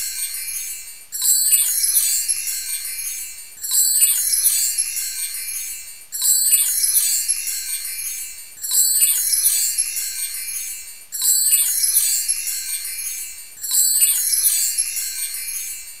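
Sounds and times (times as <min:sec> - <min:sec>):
high tinkling chimes: 0:00.0 - 0:16.0.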